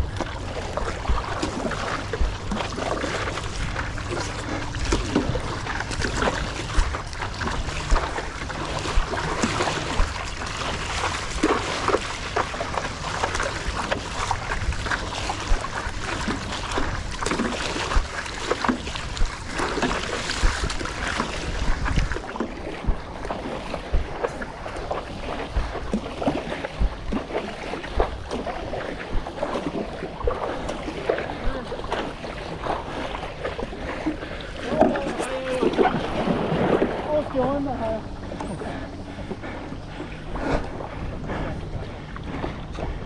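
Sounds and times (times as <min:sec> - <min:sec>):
paddle strokes in water: 0:00.0 - 0:43.0
water noise: 0:00.0 - 0:43.0
wind noise on microphone: 0:00.0 - 0:43.0.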